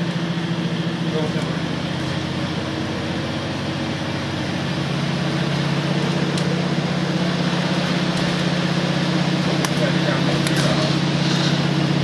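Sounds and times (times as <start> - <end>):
diesel railcar engine: 0.0 - 12.0
train running rumble: 0.0 - 12.0.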